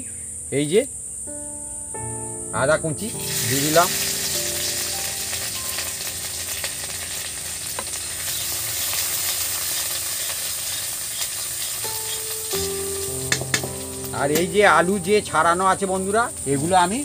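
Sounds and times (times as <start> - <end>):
spices sizzling in oil: 3.1 - 17.0.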